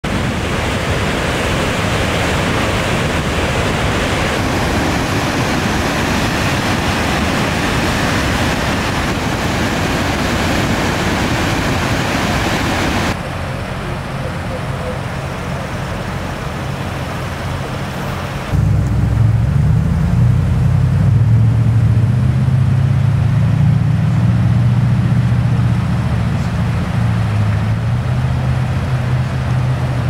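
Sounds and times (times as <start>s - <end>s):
water rushing over falls: 0.0s - 30.0s.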